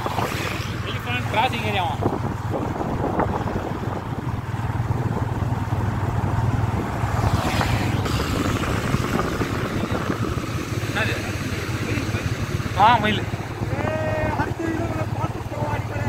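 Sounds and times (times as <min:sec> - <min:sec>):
motorcycle engine cruising: 0:00.0 - 0:16.0
wind on microphone: 0:00.0 - 0:16.0
bus passing close: 0:02.9 - 0:16.0.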